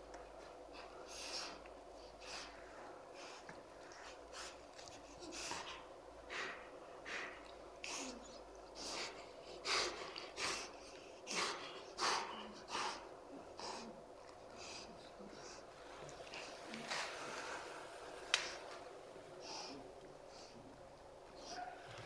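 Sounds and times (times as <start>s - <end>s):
dogs breathing hard through noses: 0.0s - 20.7s.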